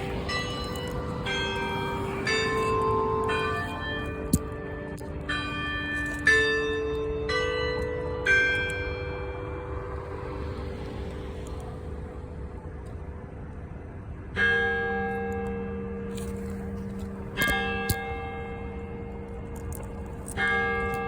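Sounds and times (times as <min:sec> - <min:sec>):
tower bells chiming a melody: 0:00.0 - 0:10.9, 0:14.3 - 0:21.0.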